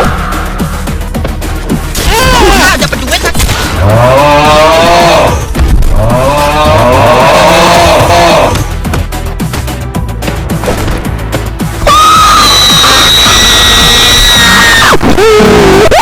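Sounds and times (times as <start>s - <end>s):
animation soundtrack music: 0.0s - 16.0s.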